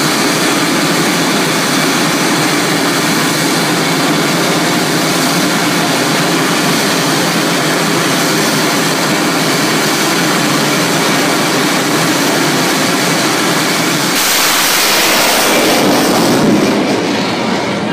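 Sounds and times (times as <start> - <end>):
jet turbine engine: 0.0 - 17.9.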